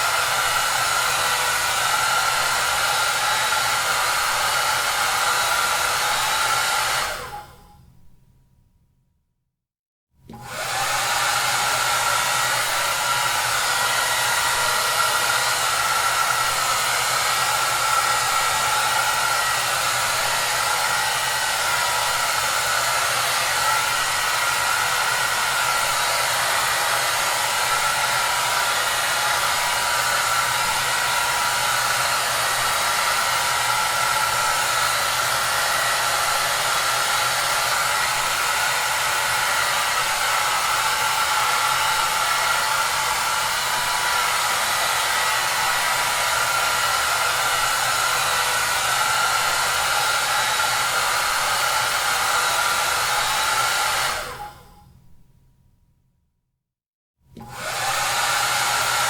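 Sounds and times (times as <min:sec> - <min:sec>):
hair dryer running: 0:00.0 - 0:07.8, 0:10.3 - 0:54.8, 0:57.3 - 0:59.0.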